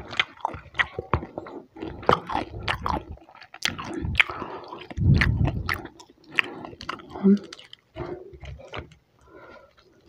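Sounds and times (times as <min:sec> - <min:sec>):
chewing crispy chicken: 0:00.0 - 0:10.0.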